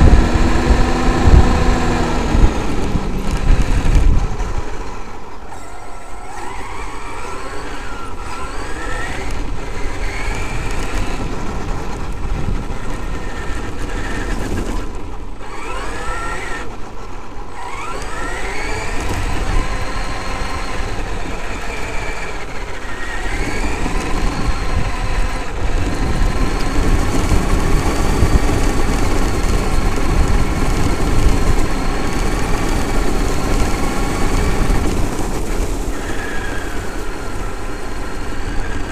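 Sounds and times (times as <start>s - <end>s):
electric motor whine: 0.0s - 38.9s.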